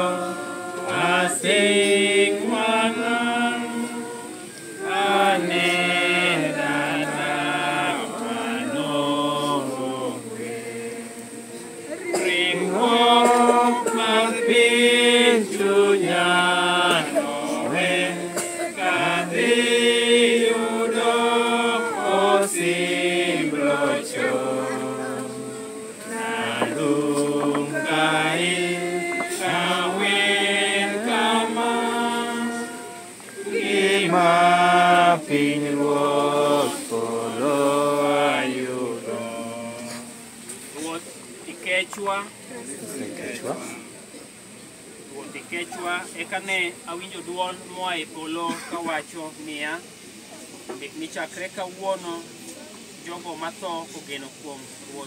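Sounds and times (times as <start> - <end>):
group singing a hymn unaccompanied: 0.0 - 55.0.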